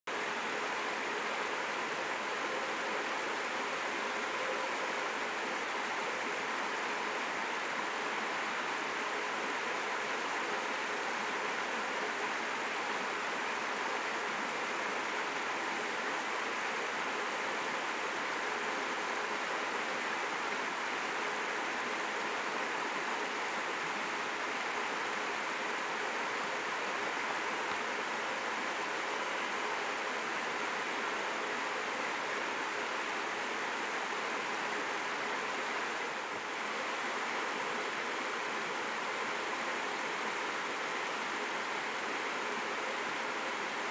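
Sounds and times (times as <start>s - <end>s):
stream rushing: 0.1s - 43.9s.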